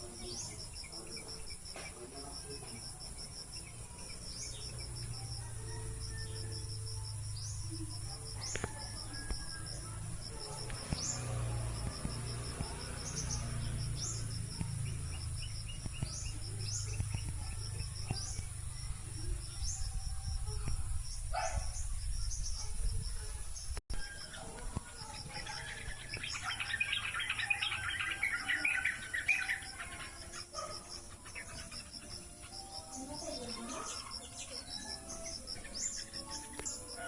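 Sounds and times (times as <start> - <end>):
insects trilling in chorus: 0.0 - 37.0
small birds chirping: 0.0 - 37.0.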